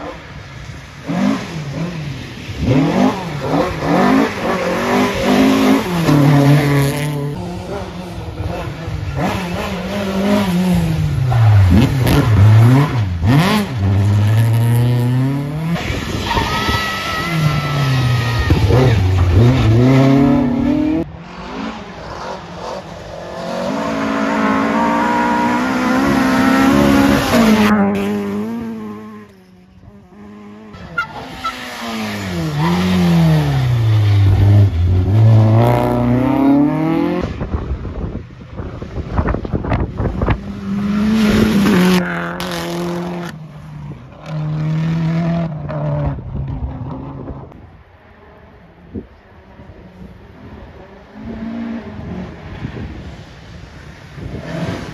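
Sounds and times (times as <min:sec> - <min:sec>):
rally car engines revving: 0:00.0 - 0:54.9.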